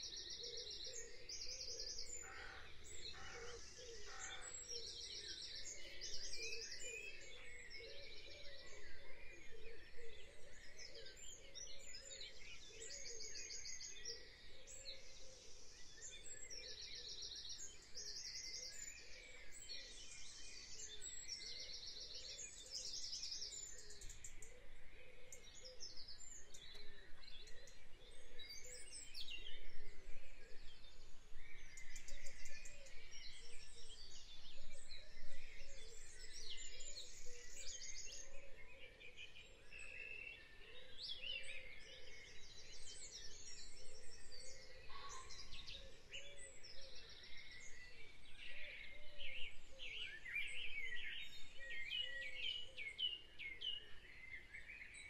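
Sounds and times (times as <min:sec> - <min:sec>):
faint bird chirps: 0:03.6 - 0:55.0.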